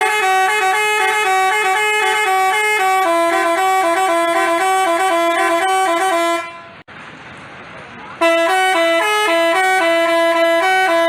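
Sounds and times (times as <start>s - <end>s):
multi-tone bus horn melody: 0.0s - 6.9s, 8.2s - 11.0s.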